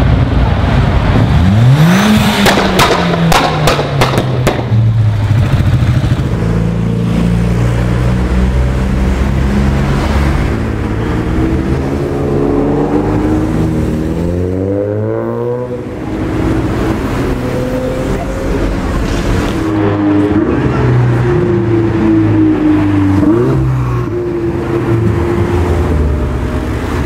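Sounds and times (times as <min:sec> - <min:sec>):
cars driving past: 0:00.0 - 0:27.0
car engine revving: 0:00.5 - 0:27.0.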